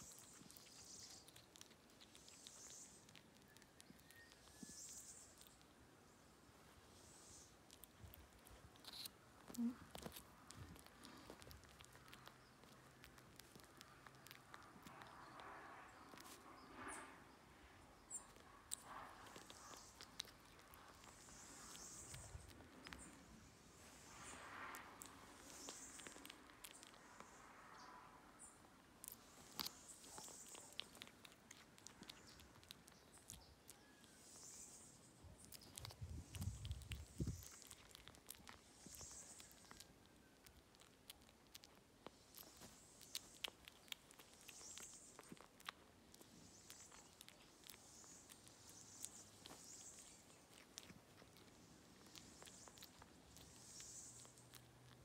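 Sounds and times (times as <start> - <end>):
kitten chewing: 0.0 - 55.0.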